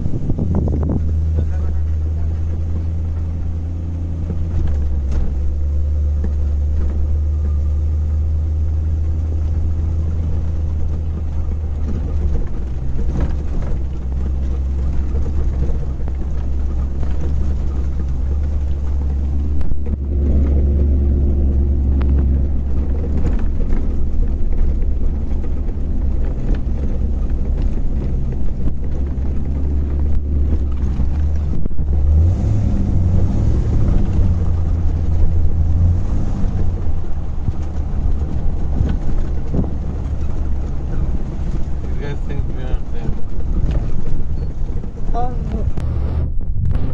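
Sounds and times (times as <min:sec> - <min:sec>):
deep engine exhaust drone: 0:00.0 - 0:46.9.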